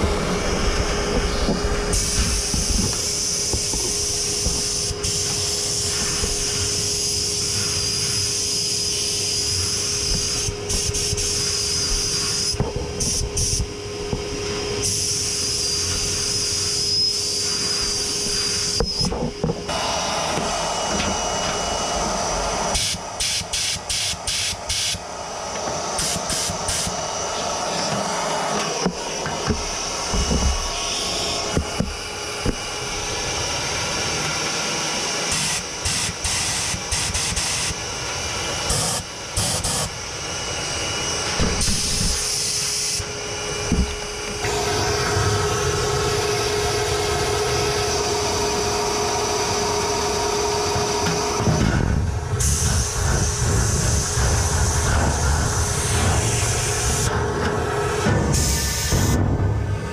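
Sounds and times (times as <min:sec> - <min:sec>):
air blow gun hissing: 0:00.0 - 0:59.2
vacuum cleaner running: 0:00.0 - 0:59.9.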